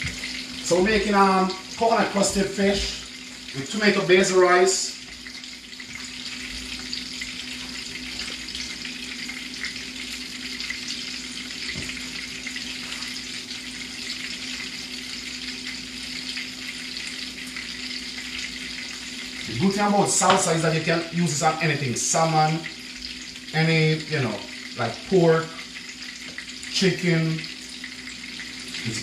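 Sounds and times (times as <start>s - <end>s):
fish frying in oil: 0.0s - 29.0s.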